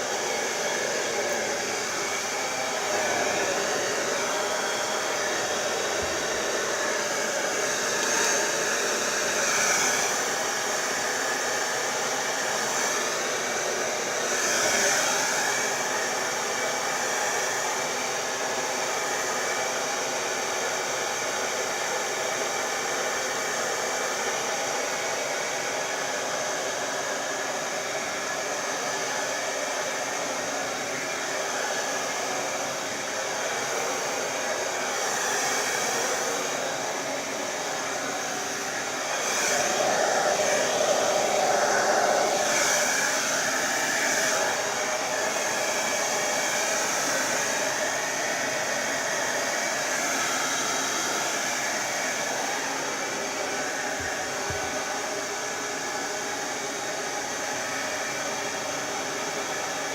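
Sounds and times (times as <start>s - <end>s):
hairdryer blowing air: 0.0s - 59.9s.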